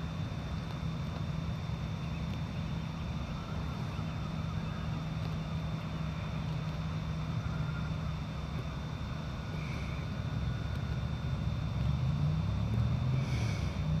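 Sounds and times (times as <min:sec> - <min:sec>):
faint high whine: 0:00.0 - 0:14.0
low mechanical hum: 0:00.0 - 0:14.0.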